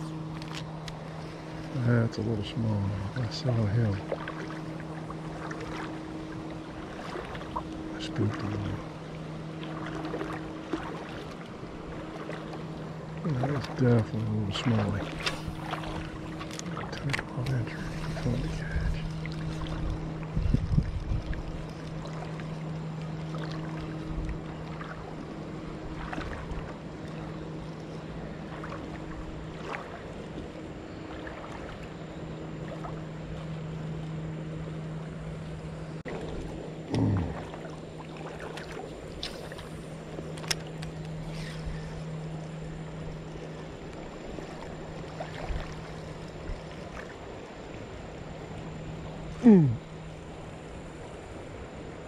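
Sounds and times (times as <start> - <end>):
low hum: 0.0 - 52.0
water rushing in a creek: 0.0 - 52.0.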